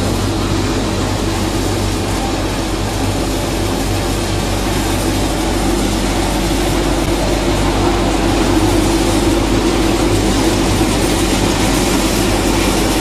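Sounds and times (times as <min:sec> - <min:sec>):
hay dryer mechanical drone: 0:00.0 - 0:13.0.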